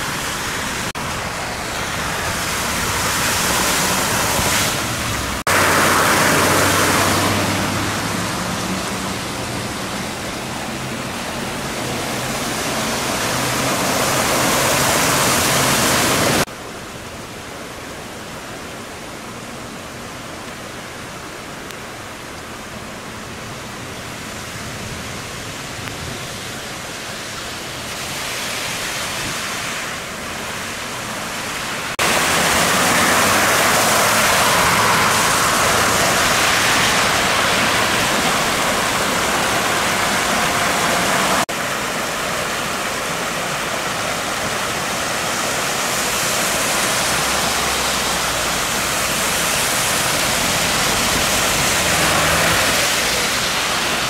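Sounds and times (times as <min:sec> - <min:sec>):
cars driving through water: 0:00.0 - 0:54.0
floodwater rushing over rocks: 0:00.0 - 0:54.0.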